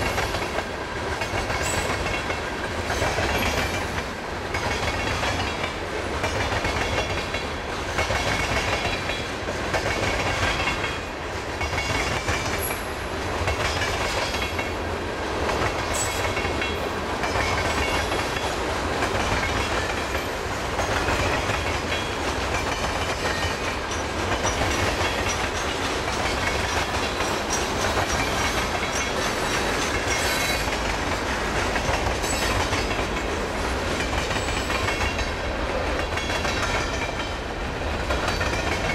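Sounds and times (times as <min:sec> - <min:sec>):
freight train cars rumbling: 0:00.0 - 0:38.9.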